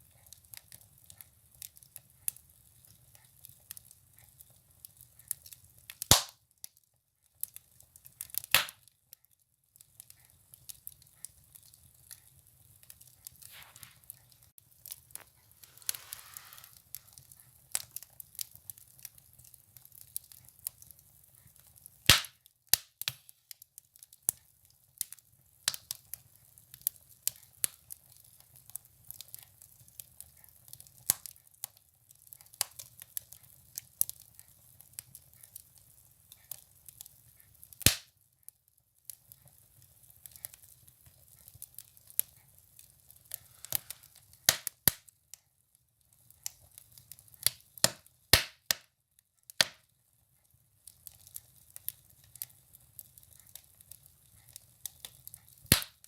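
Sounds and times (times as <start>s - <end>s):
firewood crackling in a stove: 0.0s - 56.0s.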